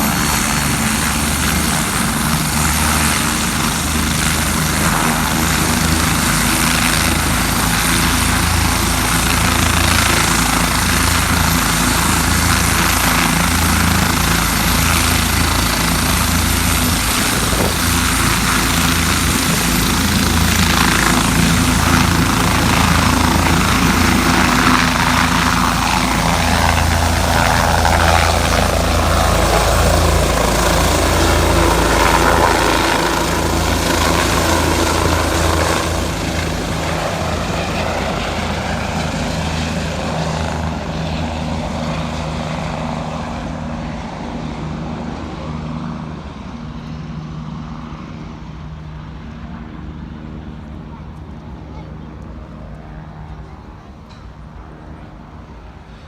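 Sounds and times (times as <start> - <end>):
turbine whine: 0.0 - 51.6
helicopter rotor beat: 0.0 - 56.0.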